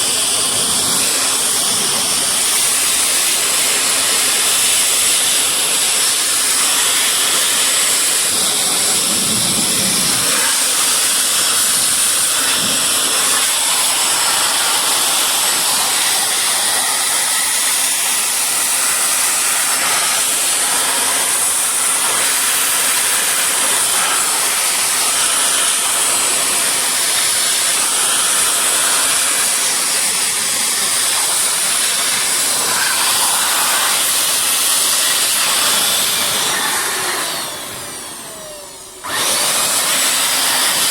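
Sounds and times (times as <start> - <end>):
blower rushing air with whistle: 0.0 - 40.9.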